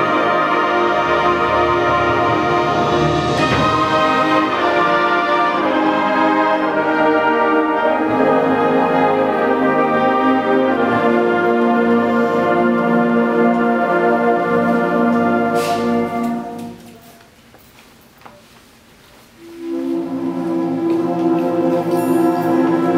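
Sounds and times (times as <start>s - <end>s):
wind band brass chords: 0.0s - 17.0s, 19.4s - 22.9s.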